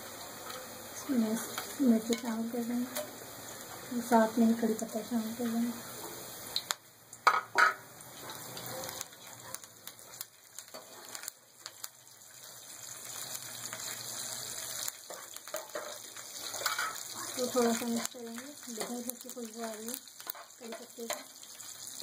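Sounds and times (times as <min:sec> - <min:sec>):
leaves sizzling in hot oil: 0:00.0 - 0:22.0.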